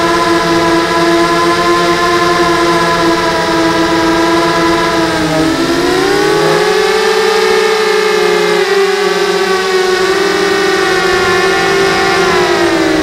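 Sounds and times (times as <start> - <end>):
drone propellers whirring: 0.0 - 13.0.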